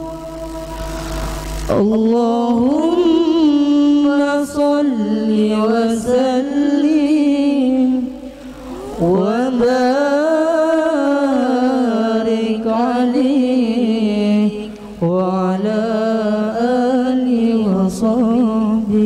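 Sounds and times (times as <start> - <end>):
young men singing unaccompanied: 1.7 - 8.1, 8.8 - 19.0.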